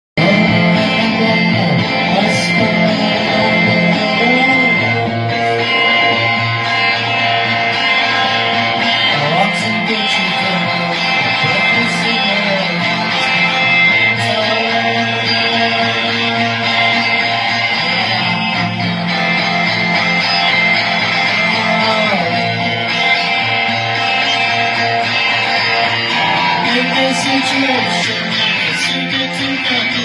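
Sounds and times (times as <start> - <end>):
electric guitar: 0.2 - 30.0
rock band playing live: 0.2 - 30.0.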